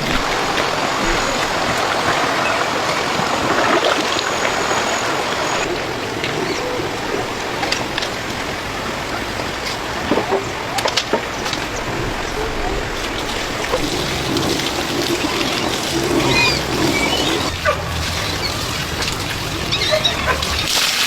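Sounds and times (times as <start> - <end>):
running water rushing: 0.0 - 21.0.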